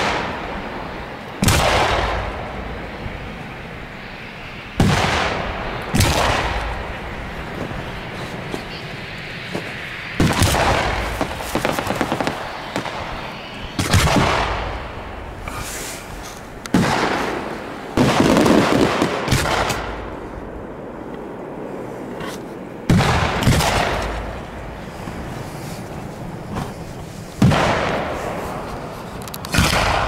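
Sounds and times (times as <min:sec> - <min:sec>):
fireworks booming: 0:00.0 - 0:30.0
fireworks crackling: 0:00.0 - 0:30.0.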